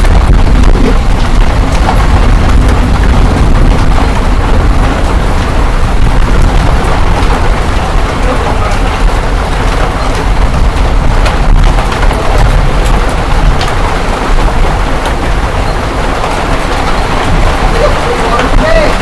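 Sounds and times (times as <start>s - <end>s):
deep rumble: 0.0s - 19.0s
hailstones ticking: 0.0s - 19.0s
heavy rain and hail: 0.0s - 19.0s.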